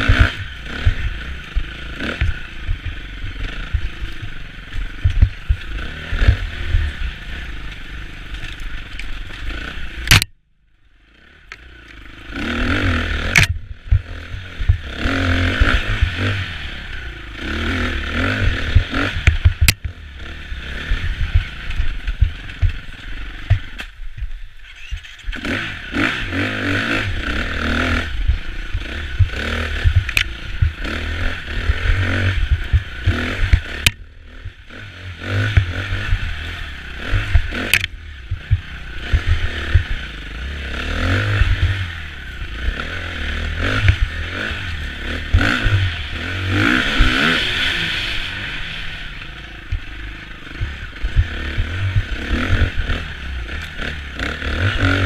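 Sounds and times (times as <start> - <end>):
branches scraping against bike: 0.0 - 10.2, 11.6 - 55.0
motorbike engine revving: 0.0 - 10.3, 11.0 - 55.0.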